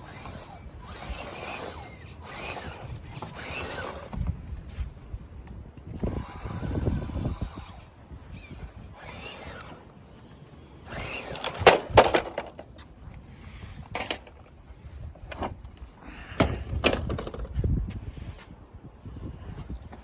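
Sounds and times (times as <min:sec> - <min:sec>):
toy car scraping over rough ground: 0:00.0 - 0:05.0, 0:05.8 - 0:18.4.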